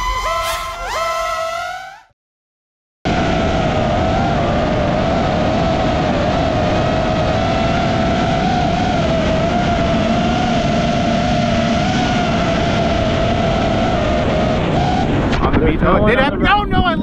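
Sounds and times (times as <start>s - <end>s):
drone motors whining: 0.0s - 2.1s, 3.1s - 15.4s
wind noise: 3.1s - 17.0s.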